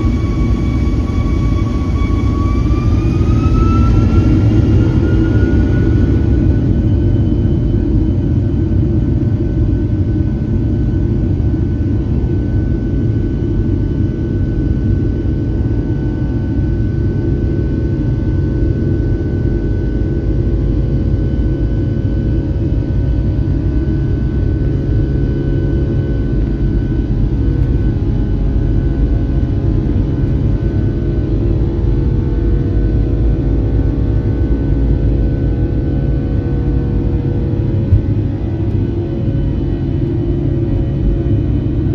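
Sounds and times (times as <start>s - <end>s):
jet engines rumbling and whining: 0.0s - 41.9s.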